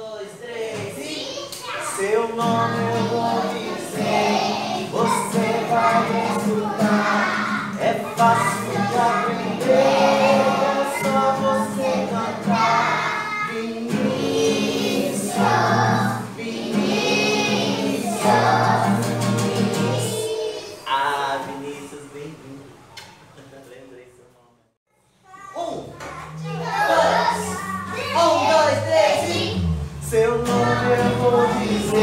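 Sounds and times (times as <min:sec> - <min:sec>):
children singing together: 0:00.7 - 0:20.9, 0:26.3 - 0:32.0
strummed acoustic guitar: 0:00.7 - 0:21.1, 0:26.2 - 0:32.0.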